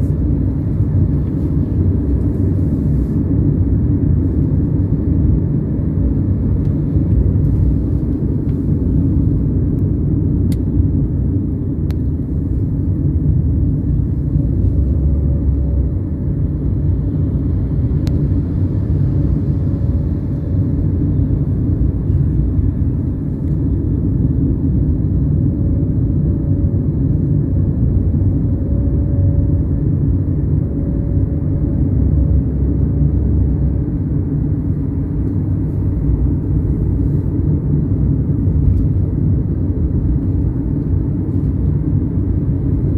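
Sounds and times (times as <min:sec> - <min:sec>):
faint whine: 0:00.0 - 0:42.9
train rumble: 0:00.0 - 0:42.9.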